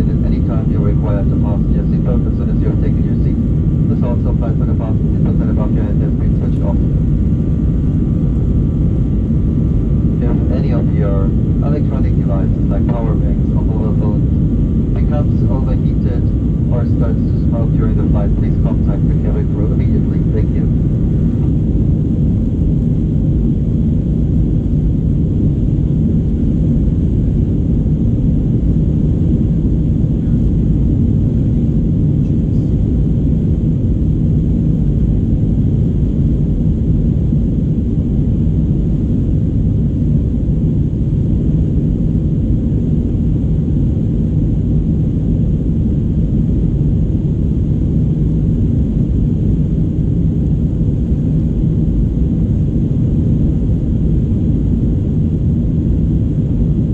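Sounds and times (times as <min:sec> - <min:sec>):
airplane cabin rumble: 0:00.0 - 0:56.9.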